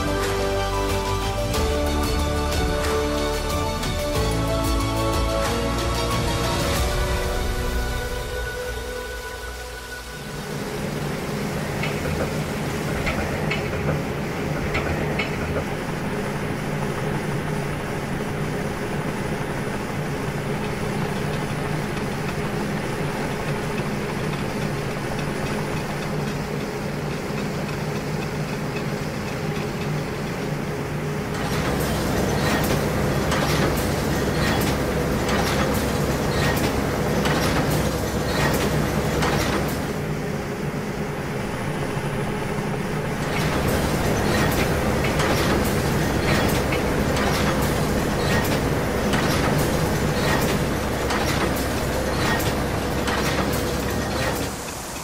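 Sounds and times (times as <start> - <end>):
steady low hum: 0.0 - 54.8
machinery rumble with clattering: 0.0 - 55.0.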